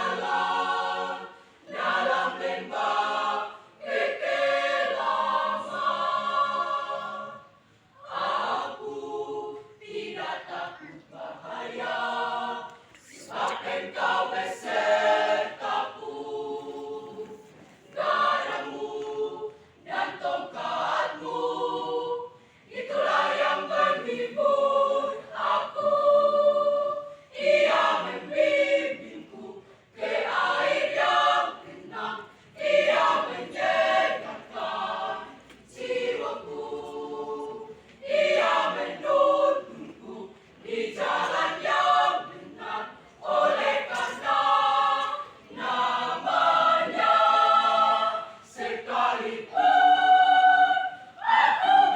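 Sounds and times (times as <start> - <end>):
choir singing unaccompanied: 0.0 - 51.9.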